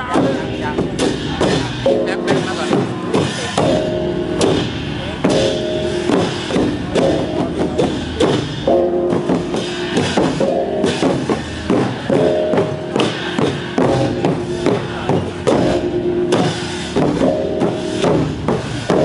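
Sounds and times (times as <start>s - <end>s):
barrel drums beating: 0.0s - 19.0s
cymbals ringing: 0.0s - 19.0s
hanging gong ringing: 0.0s - 19.0s.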